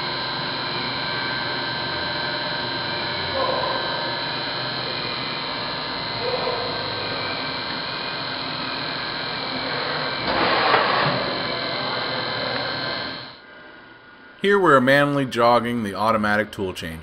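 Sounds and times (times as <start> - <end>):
machine hum with constant tones: 0.0 - 17.0.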